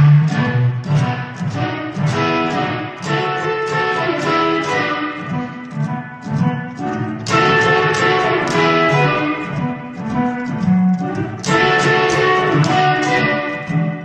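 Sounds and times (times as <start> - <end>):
electric guitar playing: 0.0 - 14.0
loud guitar chord: 0.0 - 14.0.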